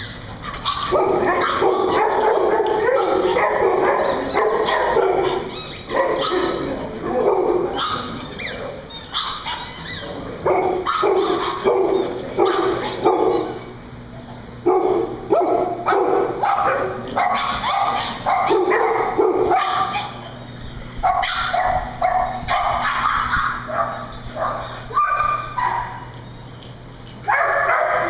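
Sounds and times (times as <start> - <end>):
dogs barking: 0.0 - 28.0
dogs yipping: 0.0 - 28.0.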